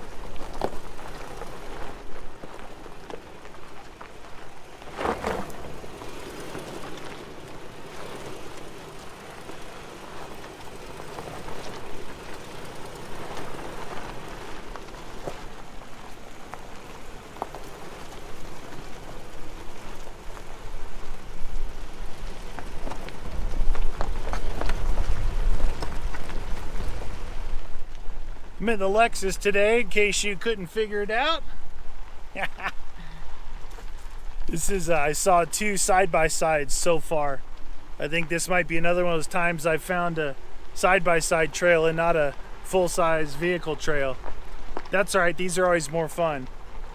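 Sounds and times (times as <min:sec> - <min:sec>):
tyres crunching over stones: 0:00.0 - 0:46.9.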